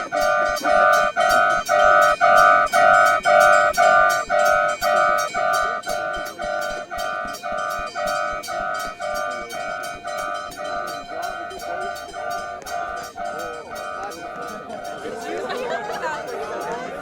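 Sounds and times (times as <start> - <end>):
level-crossing warning bell: 0.0 - 17.0.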